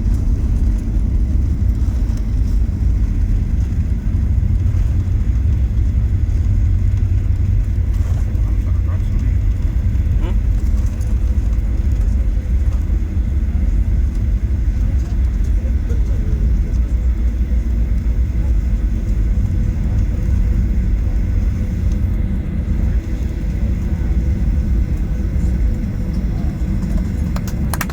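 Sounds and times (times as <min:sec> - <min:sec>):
airplane cabin low rumble: 0:00.0 - 0:27.9.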